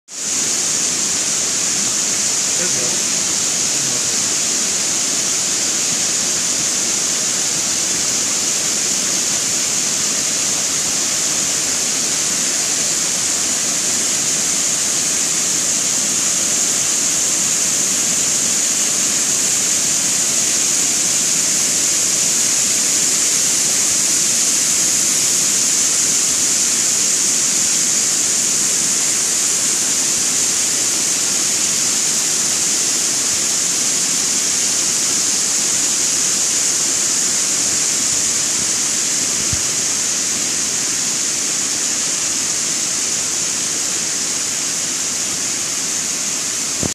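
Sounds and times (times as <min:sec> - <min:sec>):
waterfall rushing: 0:00.2 - 0:46.9.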